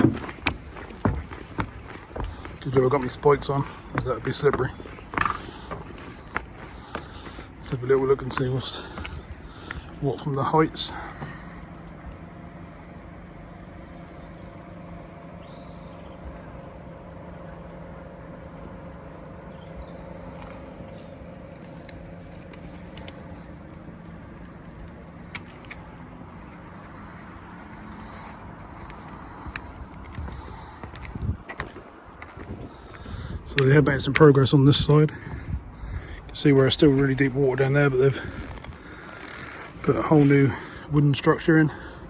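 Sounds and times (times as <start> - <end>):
low engine hum: 0.0 - 42.0.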